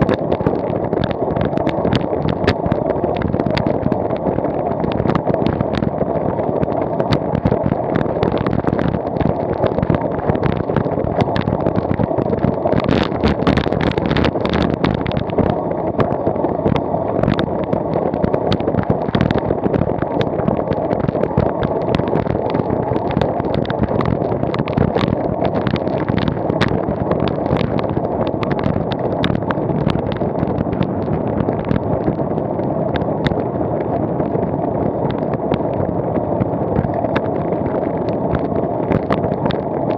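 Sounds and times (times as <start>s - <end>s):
small clicks and rattles: 0.0s - 33.5s, 35.0s - 39.9s
rushing wind on microphone: 0.0s - 39.9s.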